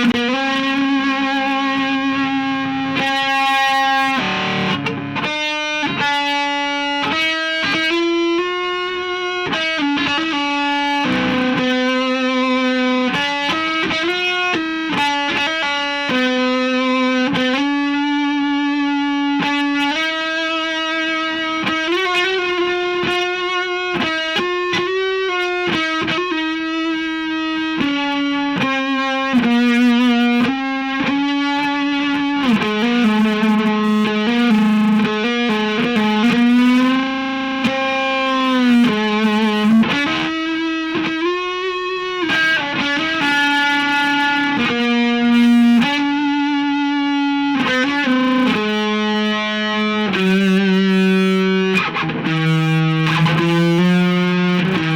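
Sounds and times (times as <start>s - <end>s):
distorted electric guitar lead: 0.0s - 54.9s.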